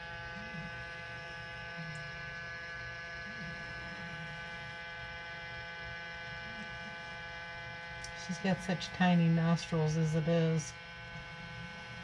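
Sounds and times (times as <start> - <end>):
nebulizer electric hum: 0.0 - 12.0.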